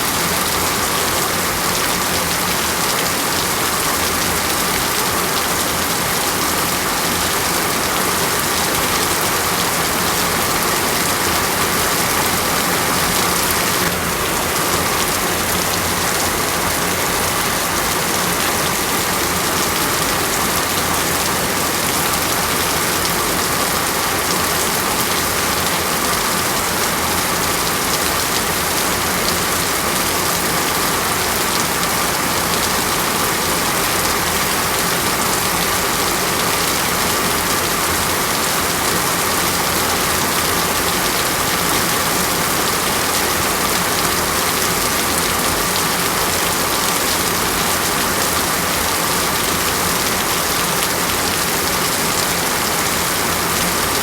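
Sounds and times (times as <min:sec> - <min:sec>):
rain falling on a surface: 0:00.0 - 0:54.0.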